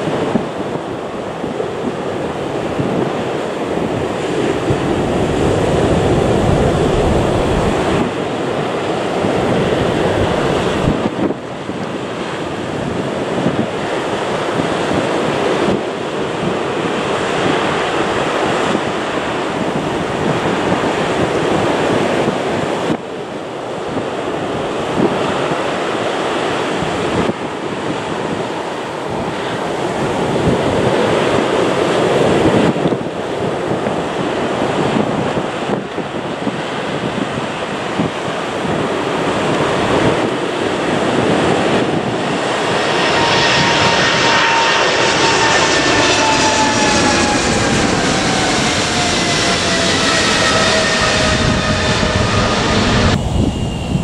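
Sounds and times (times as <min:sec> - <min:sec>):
jet engine roar at takeoff: 0:00.0 - 0:54.0
whining jet fan tones: 0:00.0 - 0:54.0.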